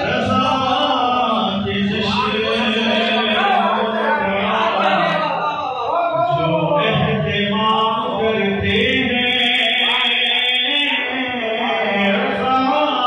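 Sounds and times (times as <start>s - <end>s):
man chanting through microphone: 0.0s - 13.0s.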